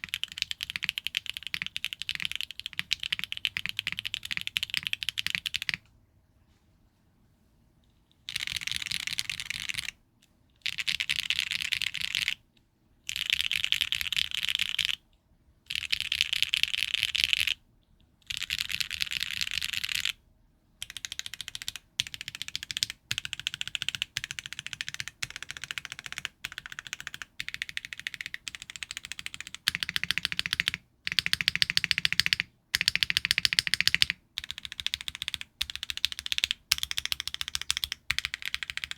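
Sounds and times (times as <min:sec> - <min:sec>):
typing on mechanical keyboard: 0:00.0 - 0:05.8, 0:08.3 - 0:10.0, 0:10.6 - 0:12.4, 0:13.1 - 0:15.0, 0:15.7 - 0:17.6, 0:18.3 - 0:20.2, 0:20.8 - 0:38.9.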